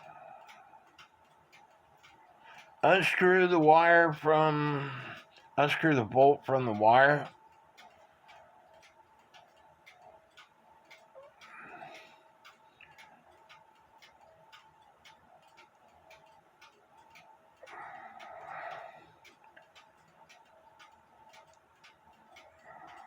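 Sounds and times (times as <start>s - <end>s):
mechanical clock ticking: 0.0s - 23.0s.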